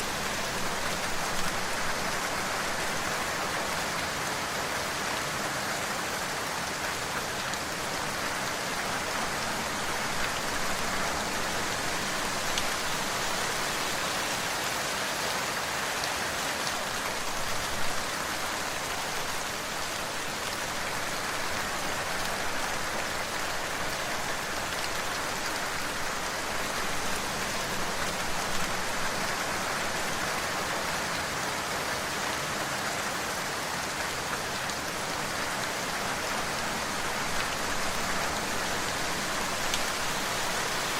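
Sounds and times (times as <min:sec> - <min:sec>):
steady rain hitting a surface: 0:00.0 - 0:40.9.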